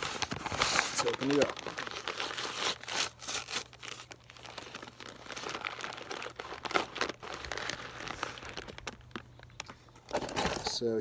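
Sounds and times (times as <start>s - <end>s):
paper envelope tearing and crinkling: 0.0s - 10.8s.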